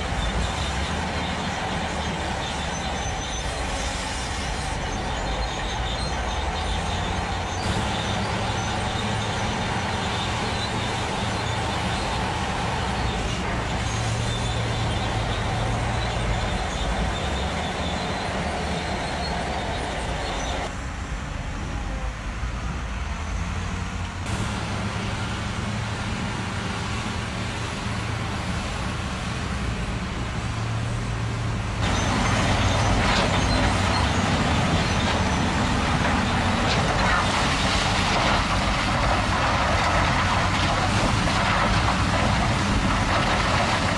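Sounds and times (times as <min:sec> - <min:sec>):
truck engine humming: 0:00.0 - 0:43.9.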